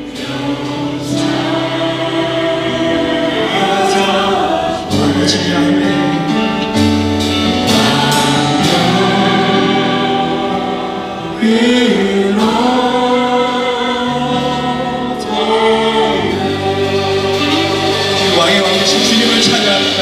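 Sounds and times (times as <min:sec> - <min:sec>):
congregation singing: 0:00.0 - 0:20.0
instrumental accompaniment: 0:00.0 - 0:20.0.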